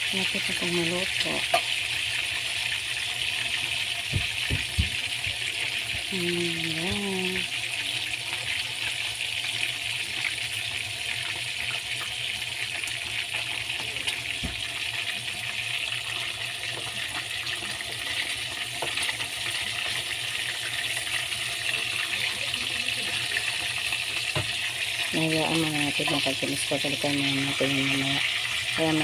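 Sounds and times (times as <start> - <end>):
fish frying in hot oil: 0.0 - 29.0.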